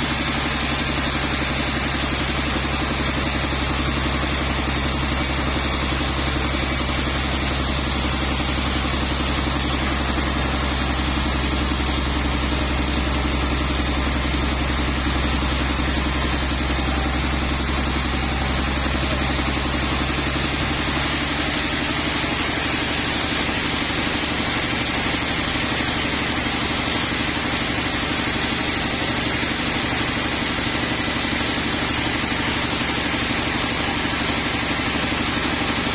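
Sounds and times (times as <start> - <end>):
sawmill engine humming: 0.0 - 35.9.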